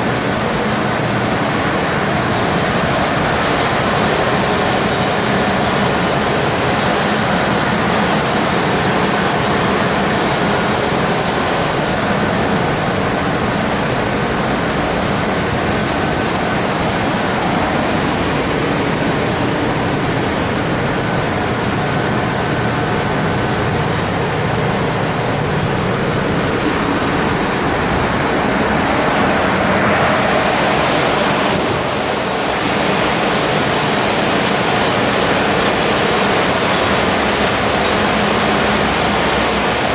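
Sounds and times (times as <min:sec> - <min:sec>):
engine-room machinery running: 0:00.0 - 0:39.9.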